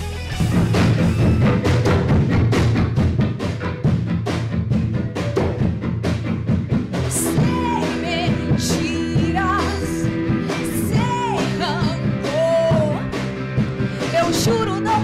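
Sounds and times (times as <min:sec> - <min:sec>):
bass: 0:00.0 - 0:15.0
drum kit: 0:00.0 - 0:15.0
guitar: 0:00.0 - 0:15.0.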